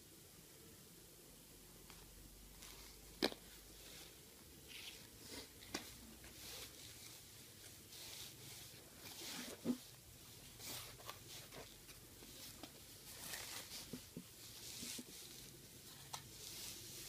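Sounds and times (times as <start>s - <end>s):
fabric rustling: 2.5s - 17.0s.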